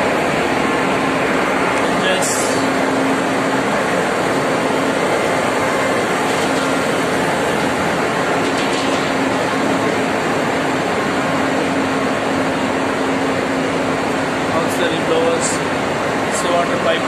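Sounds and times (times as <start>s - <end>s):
constant low hum: 0.0s - 17.0s
engine room machinery: 0.0s - 17.0s.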